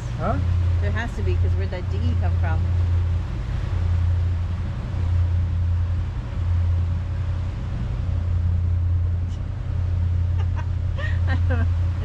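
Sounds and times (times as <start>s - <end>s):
motorboat engine drone: 0.0s - 12.0s
water rushing: 0.0s - 12.0s
wind noise: 0.0s - 12.0s.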